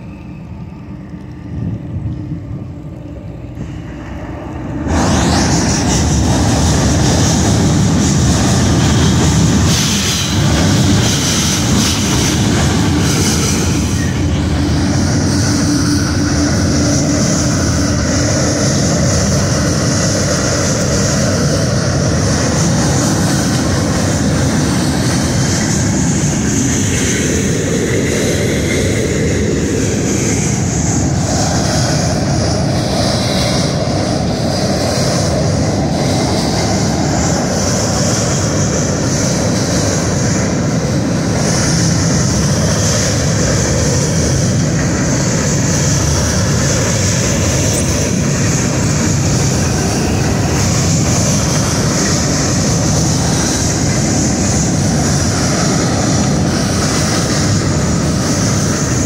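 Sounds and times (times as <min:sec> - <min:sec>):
steel train wheels on rails: 0:00.0 - 0:59.0.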